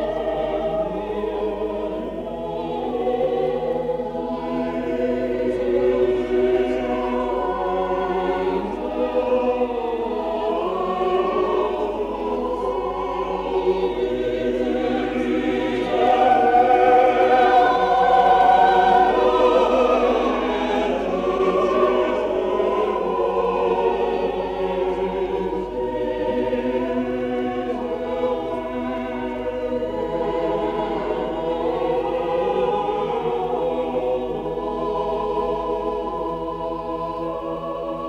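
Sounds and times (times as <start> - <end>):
choir singing long chords: 0.0 - 38.0.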